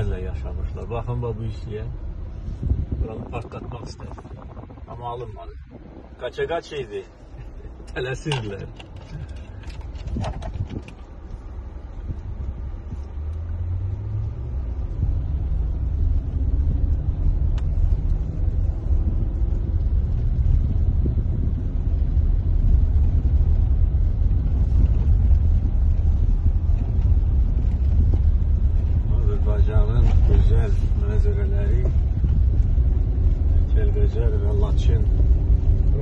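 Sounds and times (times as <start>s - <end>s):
car engine hum rising: 0.0s - 36.0s
tyres rumbling on gravel road: 0.0s - 36.0s.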